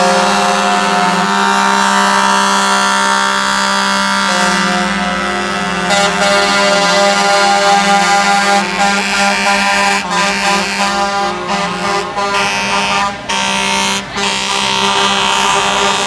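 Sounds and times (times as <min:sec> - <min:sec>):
truck air horns blaring: 0:00.0 - 0:16.0.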